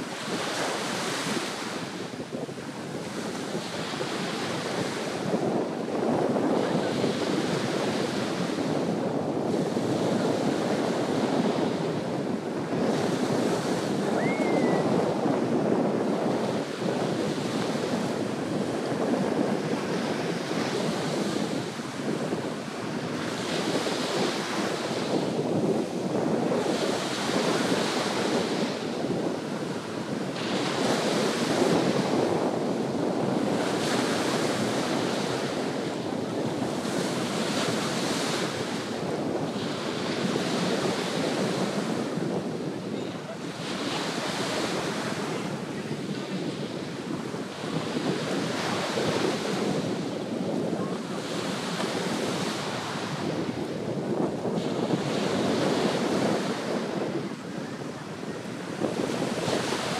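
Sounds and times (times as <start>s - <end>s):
small waves washing on sand beach: 0.0s - 59.9s.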